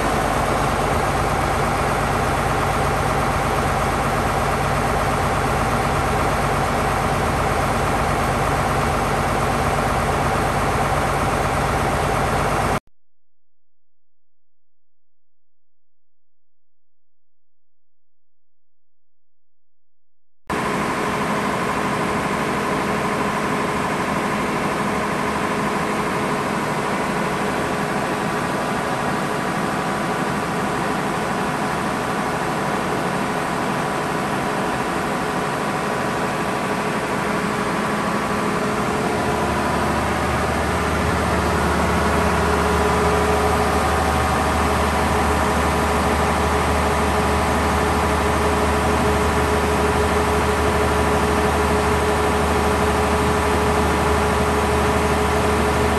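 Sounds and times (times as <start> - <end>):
diesel generator engine humming: 0.0 - 12.8, 20.5 - 55.9.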